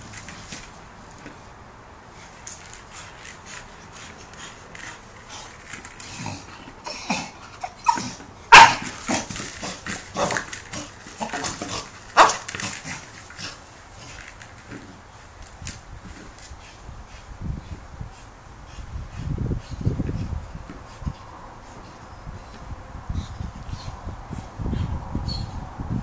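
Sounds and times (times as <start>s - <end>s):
dog breathy play noises: 0.0s - 15.3s, 16.0s - 25.2s.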